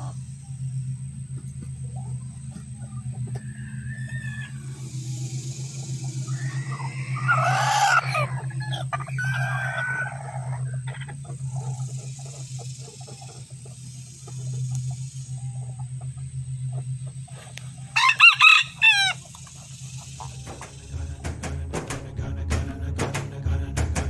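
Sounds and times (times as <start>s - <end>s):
rooster alarm call: 0.0s - 21.2s
steady low hum: 0.0s - 24.0s.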